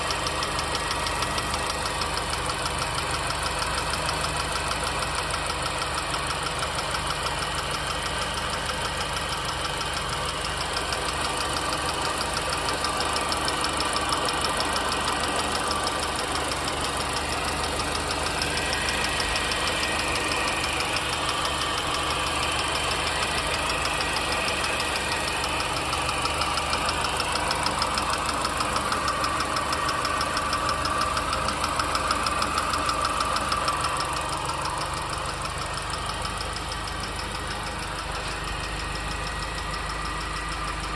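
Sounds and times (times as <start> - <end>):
car engine running: 0.0 - 40.9
fast even engine ticking: 0.0 - 40.9.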